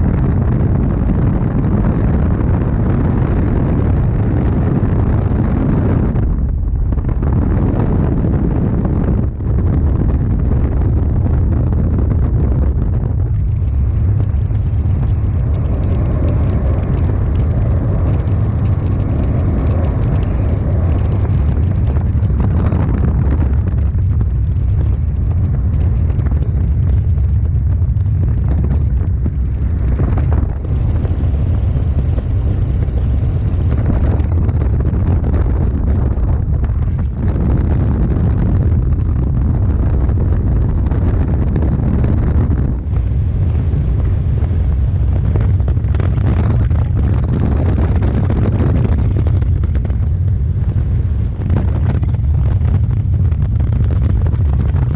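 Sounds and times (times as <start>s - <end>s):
helicopter rotor and engine drone: 0.0s - 54.9s
wind rush on microphone: 0.0s - 54.9s.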